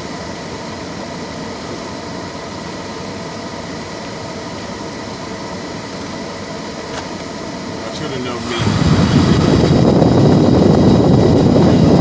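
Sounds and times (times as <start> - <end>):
car air conditioning blowing: 0.0 - 12.0
car engine running: 0.0 - 12.0.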